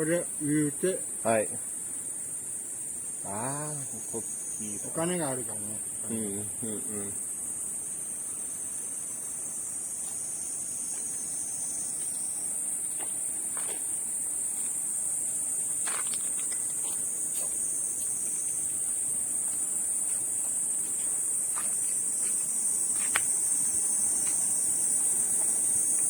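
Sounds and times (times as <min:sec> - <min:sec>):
insect chorus buzzing: 0:00.0 - 0:26.0.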